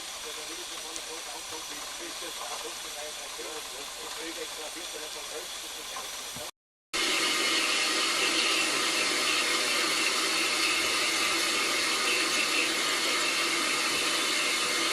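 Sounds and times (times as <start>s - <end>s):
steam locomotive hissing: 0.0s - 14.9s.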